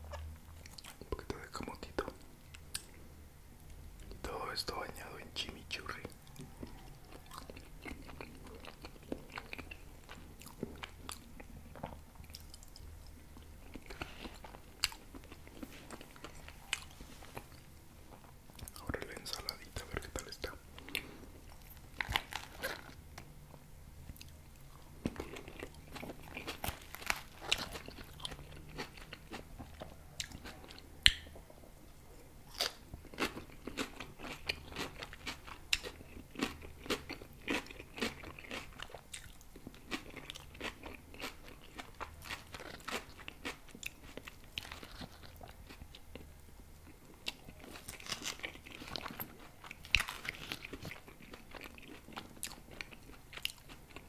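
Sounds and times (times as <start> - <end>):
chewing crunchy salad leaves: 5.9 - 31.5, 32.4 - 54.0.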